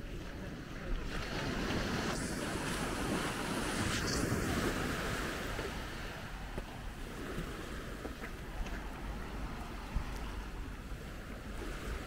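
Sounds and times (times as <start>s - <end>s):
small waves washing on sand: 0.0s - 12.0s
wind rumbling on microphone: 0.0s - 12.0s.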